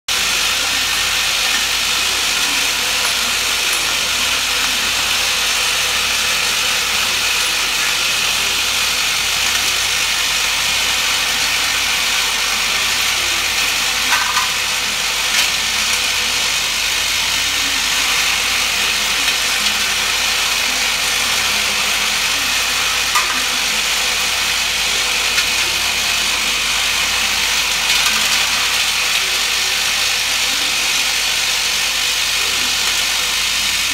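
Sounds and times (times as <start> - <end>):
vibratory feeder buzzing: 0.1 - 33.9.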